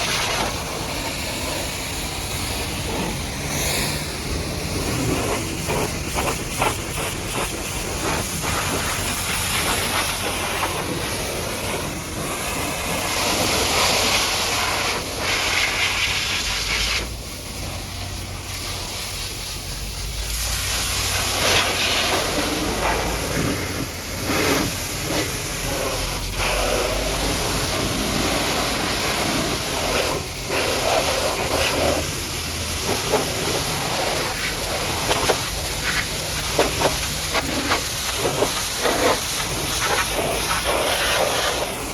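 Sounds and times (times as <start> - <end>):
pressure washer spraying: 0.0 - 41.9.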